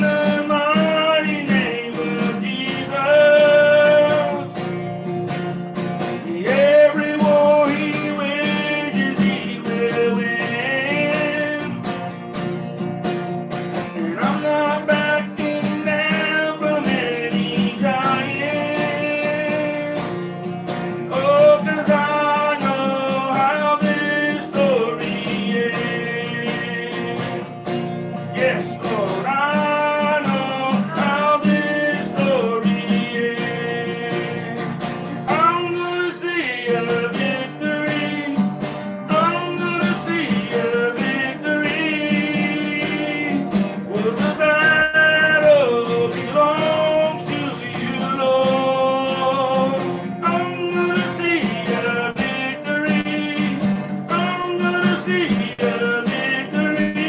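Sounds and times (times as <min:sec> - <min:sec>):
man singing: 0:00.0 - 0:57.0
strummed acoustic guitar: 0:00.0 - 0:57.0.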